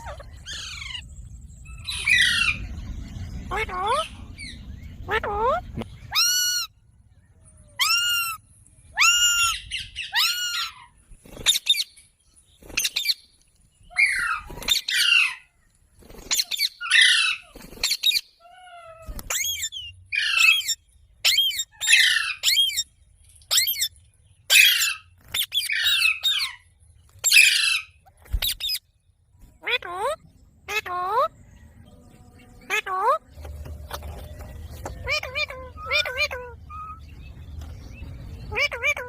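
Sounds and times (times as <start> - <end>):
parakeet calling and squawking: 0.0 - 6.8, 7.7 - 12.0, 13.9 - 15.5, 16.2 - 22.9, 23.5 - 23.9, 24.5 - 28.8, 29.6 - 31.4, 32.2 - 39.0.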